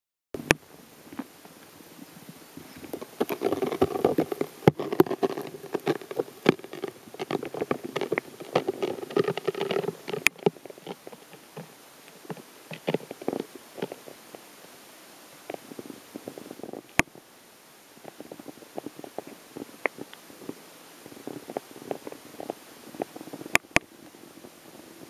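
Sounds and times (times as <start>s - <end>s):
underwater clicking and crackling: 2.6s - 14.5s, 15.4s - 17.3s, 18.0s - 25.0s.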